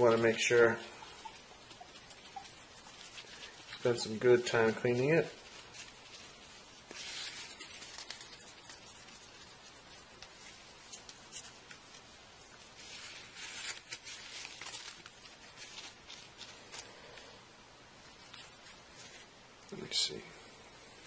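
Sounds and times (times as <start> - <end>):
cloth rubbing screen: 0.0 - 17.3, 18.0 - 19.3.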